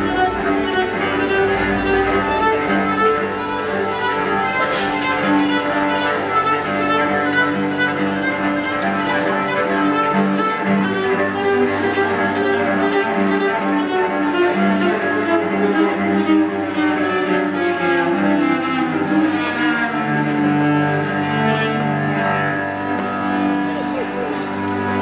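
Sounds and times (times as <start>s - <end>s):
bowed cello: 0.0s - 25.0s.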